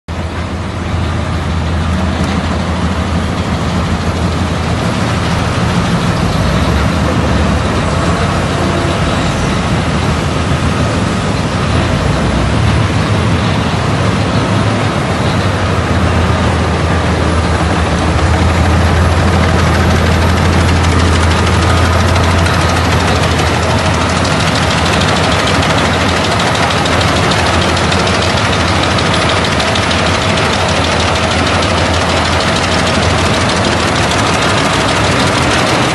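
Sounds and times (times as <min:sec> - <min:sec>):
diesel engine drone: 0:00.1 - 0:35.9.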